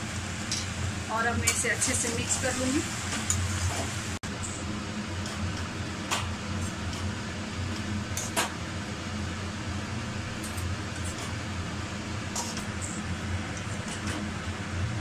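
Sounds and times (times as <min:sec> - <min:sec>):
low fan hum: 0:00.0 - 0:15.0.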